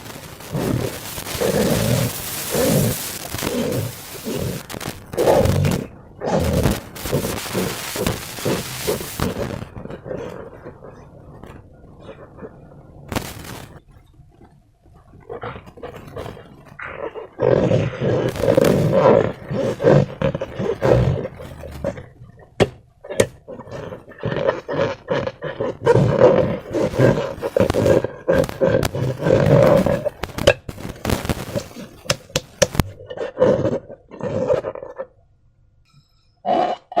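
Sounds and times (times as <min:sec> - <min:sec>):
trapped air crackling and popping: 0:00.0 - 0:35.1.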